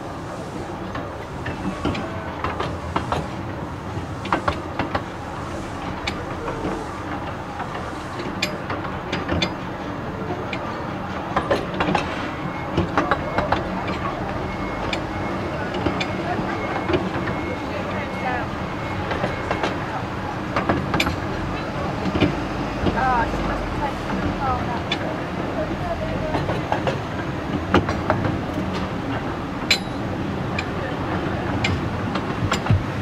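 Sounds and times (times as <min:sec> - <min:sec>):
wheels rumbling on rail: 0:00.0 - 0:33.0
clicks and clanks from rail joints: 0:00.3 - 0:33.0.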